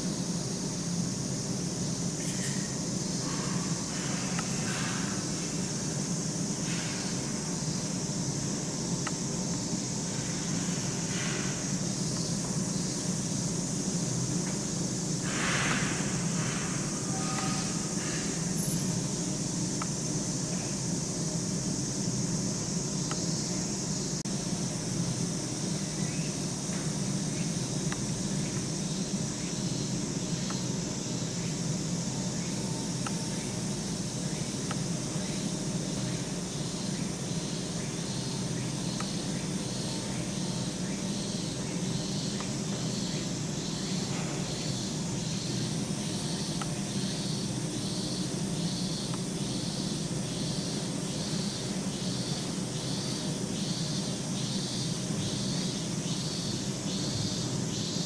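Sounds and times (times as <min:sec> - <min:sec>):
insects calling in pulses: 0:00.0 - 0:58.0
steady low hum: 0:00.0 - 0:58.0.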